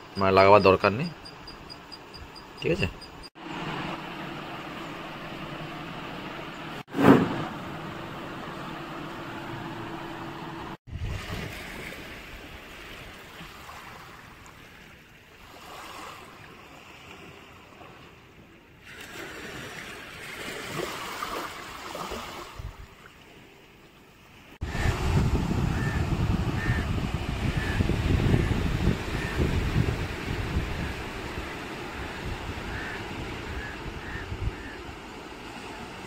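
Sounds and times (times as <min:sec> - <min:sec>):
wind: 0:00.0 - 0:36.0
sea surf: 0:02.6 - 0:23.6, 0:24.2 - 0:36.0.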